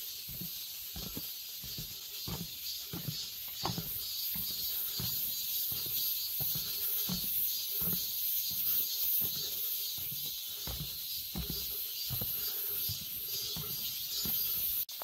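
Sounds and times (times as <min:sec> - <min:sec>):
footsteps on forest trail: 0:00.0 - 0:15.0
outdoor ambience hiss: 0:00.0 - 0:15.0.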